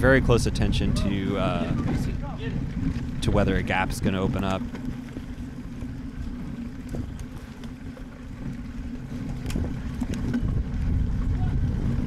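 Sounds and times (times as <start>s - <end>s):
wind rumbling on microphone: 0.0s - 12.0s
bike tyres rolling on dirt: 1.4s - 12.0s.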